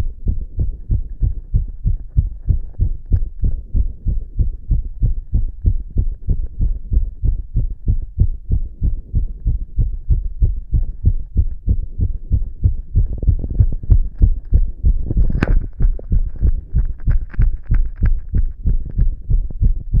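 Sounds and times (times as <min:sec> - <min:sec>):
fast heartbeat through stethoscope: 0:00.0 - 0:20.0.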